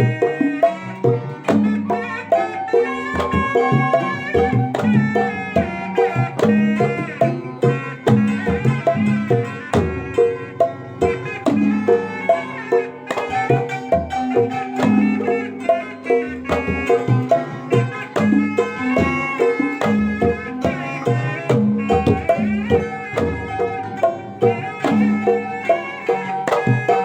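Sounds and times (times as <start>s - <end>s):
fast hand drum: 0.0s - 27.0s
sliding melody line: 0.0s - 27.0s.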